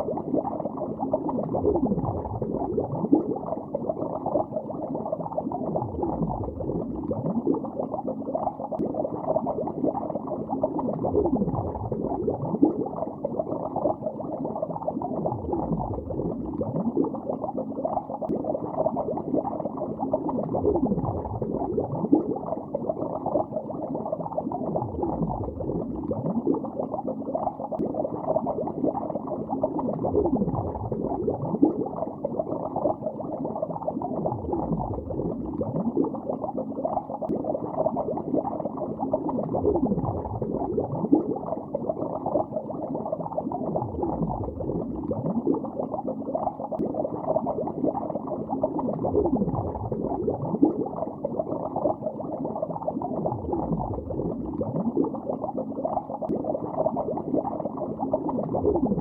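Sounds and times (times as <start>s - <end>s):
muffled underwater bubbling: 0.0s - 59.0s.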